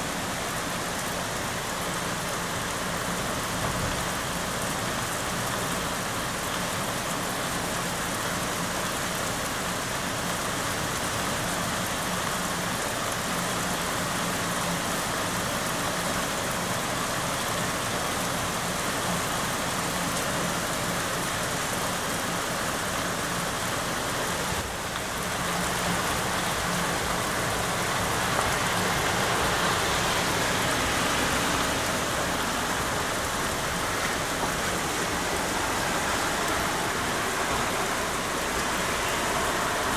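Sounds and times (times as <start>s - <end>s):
heavy rain on roofs and trees: 0.0s - 39.9s.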